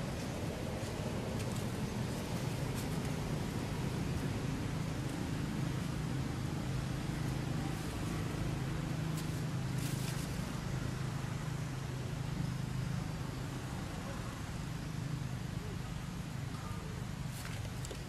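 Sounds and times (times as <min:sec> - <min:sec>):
engine hum: 0:00.0 - 0:18.0.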